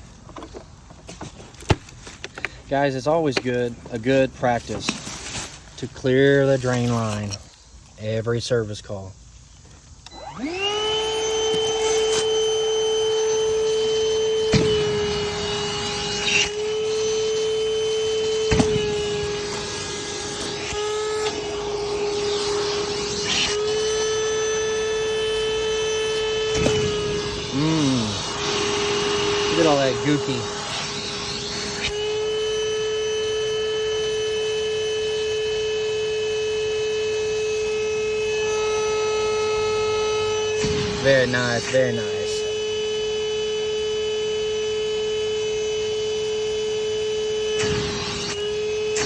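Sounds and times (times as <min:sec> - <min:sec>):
shop vacuum running: 0:00.1 - 0:49.0.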